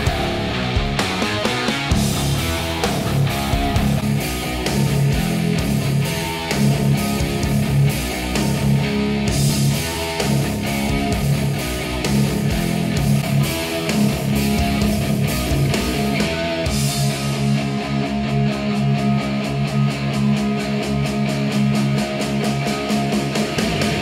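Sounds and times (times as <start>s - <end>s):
rock song through speakers: 0.0s - 24.0s.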